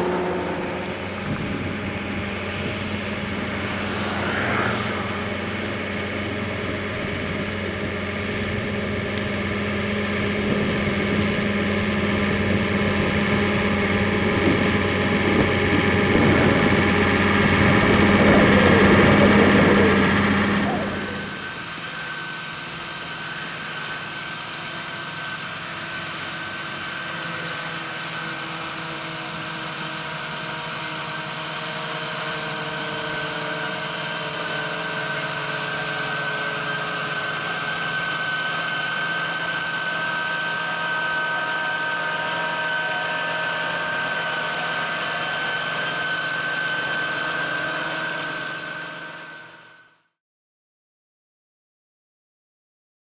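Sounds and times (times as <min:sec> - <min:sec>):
thin steady whine: 0:00.0 - 0:50.0
tractor engine under load: 0:00.0 - 0:50.0
loud machine engine: 0:00.0 - 0:50.2.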